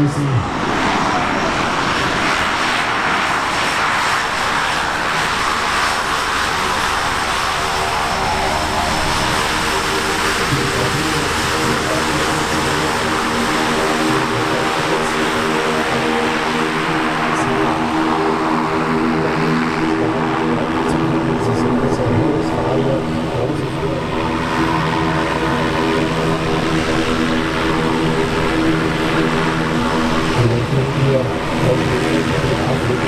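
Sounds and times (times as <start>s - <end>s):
turboprop engine and propeller humming: 0.0s - 33.0s.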